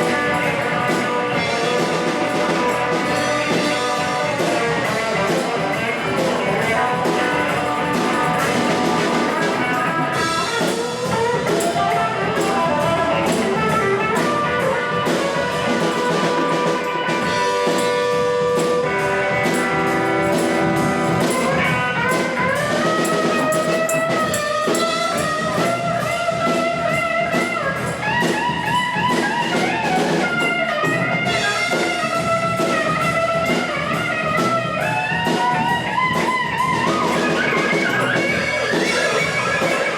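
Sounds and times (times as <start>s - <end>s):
bending lead guitar line: 0.0s - 39.9s
drums: 0.0s - 39.9s
rhythm guitar: 0.0s - 39.9s.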